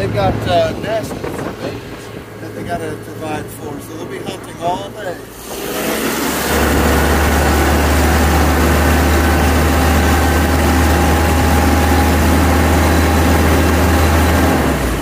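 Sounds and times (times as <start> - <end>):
boat engine droning: 0.0 - 15.0
propeller wake hissing: 0.0 - 15.0.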